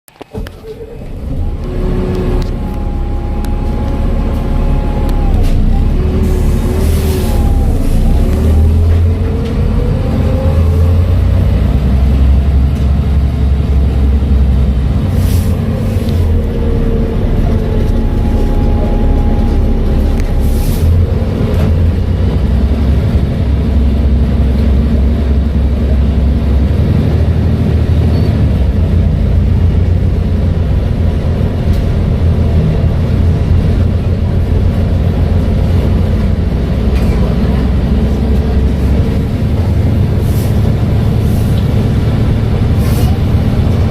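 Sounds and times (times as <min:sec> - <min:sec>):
bus engine rumble: 0:00.1 - 0:43.9.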